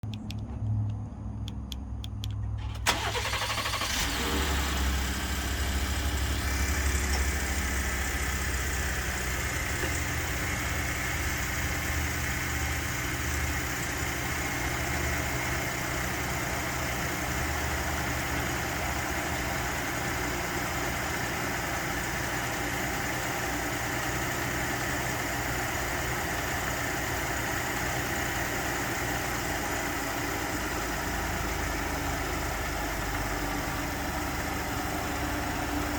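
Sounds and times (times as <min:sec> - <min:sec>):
car engine idling: 0:00.0 - 0:35.9
engine rattle: 0:00.0 - 0:35.9.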